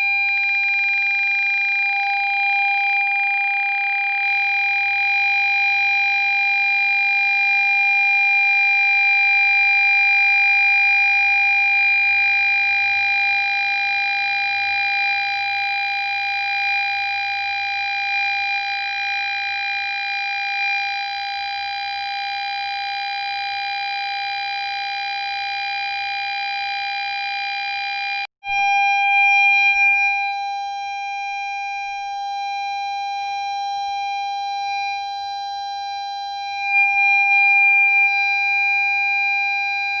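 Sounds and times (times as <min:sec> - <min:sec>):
continuous high warning tone: 0:00.0 - 0:40.0.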